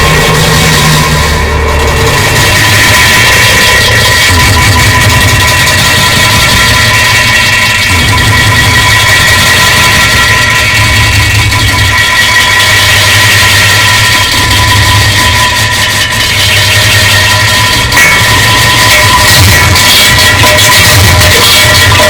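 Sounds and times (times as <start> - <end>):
distorted fart sound effect: 0.0 - 22.0.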